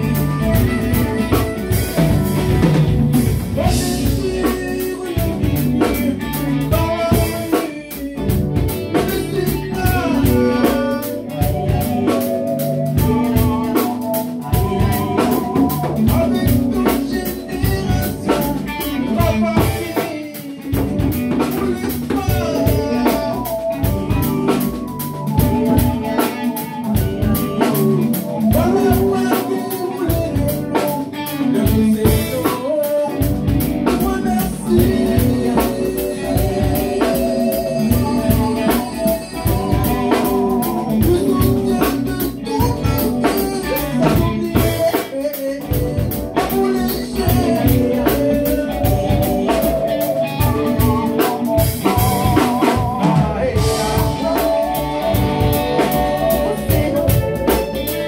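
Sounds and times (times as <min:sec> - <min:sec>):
drum kit beat: 0:00.0 - 0:58.0
guitar: 0:00.0 - 0:58.0
person singing: 0:00.0 - 0:58.0.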